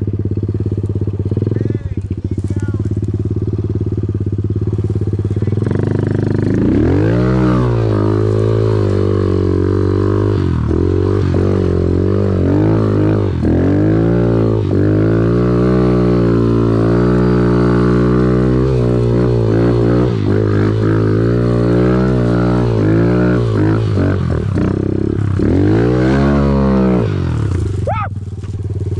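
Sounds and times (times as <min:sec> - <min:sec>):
off-road engine revving: 0:00.0 - 0:28.9.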